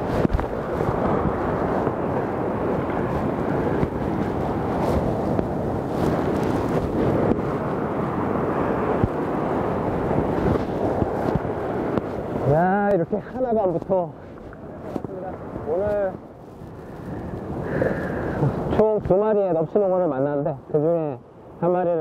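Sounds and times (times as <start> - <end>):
waves crashing over rocks: 0.0 - 19.8
wind buffeting microphone: 0.0 - 22.0.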